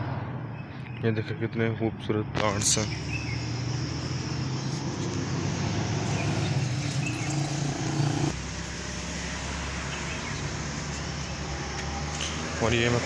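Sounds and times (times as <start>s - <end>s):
vehicle engine humming: 2.4s - 13.0s.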